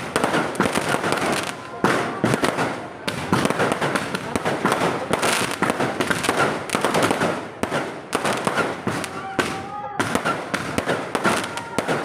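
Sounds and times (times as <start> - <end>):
fireworks and firecrackers banging: 0.0 - 12.0.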